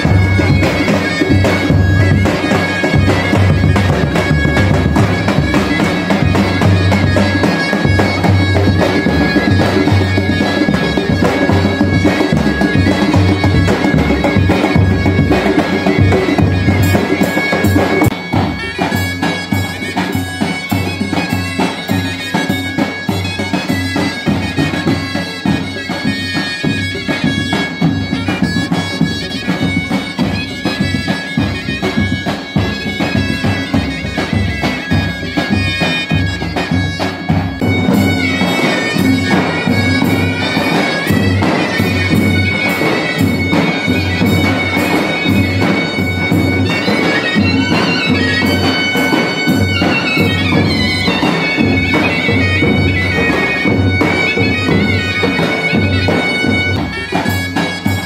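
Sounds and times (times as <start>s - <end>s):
shrill double-reed pipes: 0.0s - 58.0s.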